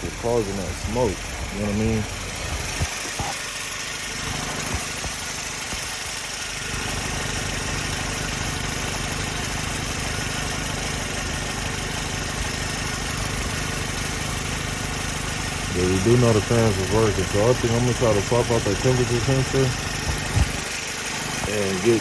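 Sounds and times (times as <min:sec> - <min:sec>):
car engine idling: 0:00.0 - 0:22.0
radiator cooling fans rushing: 0:00.0 - 0:22.0.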